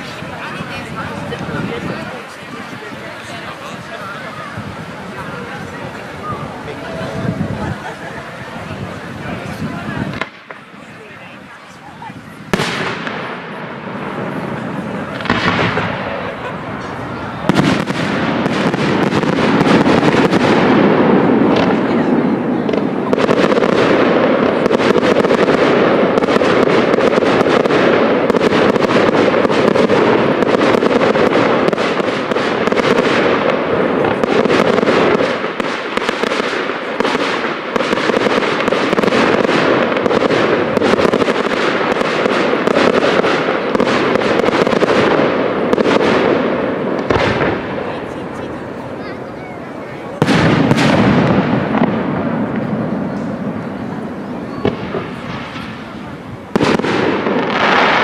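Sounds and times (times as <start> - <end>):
fireworks crackling: 0.0 - 58.0
sharp fireworks bangs: 0.0 - 58.0.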